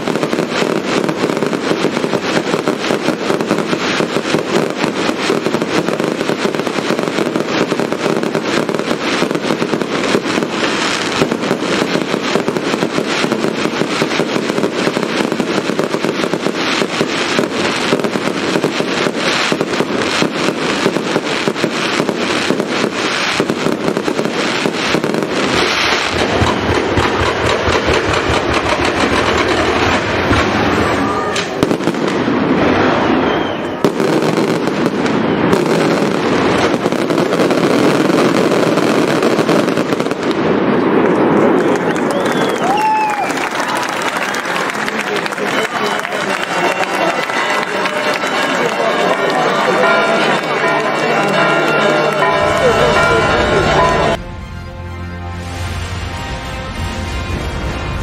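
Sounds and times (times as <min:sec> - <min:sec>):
deep fireworks booms: 0:00.0 - 0:54.6
fireworks bangs and crackling: 0:00.0 - 0:58.0.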